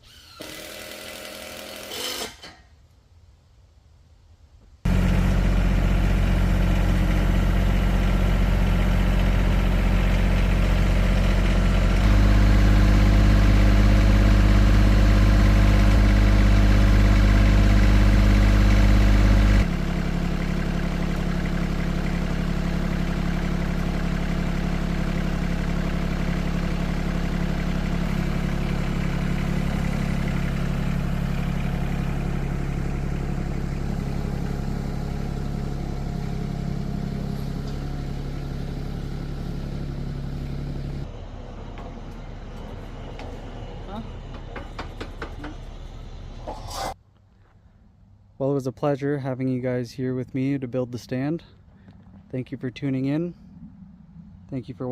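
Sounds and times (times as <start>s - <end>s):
engine running steadily: 4.8s - 47.6s, 51.3s - 54.9s.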